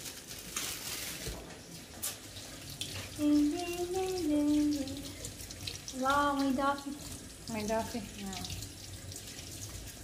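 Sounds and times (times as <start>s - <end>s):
water running from tap: 0.0s - 10.0s.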